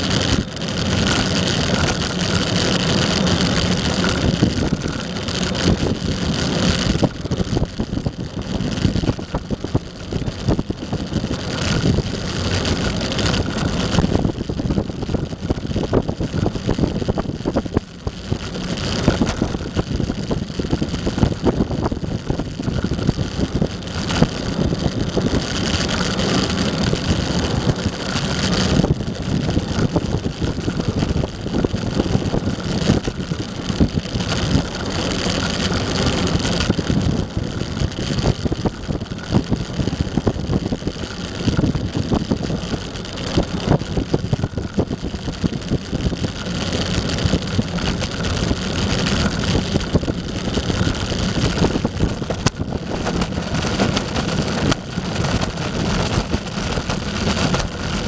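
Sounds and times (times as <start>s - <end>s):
skateboard wheels rumbling on asphalt: 0.0s - 58.0s
wind on microphone: 0.0s - 58.0s.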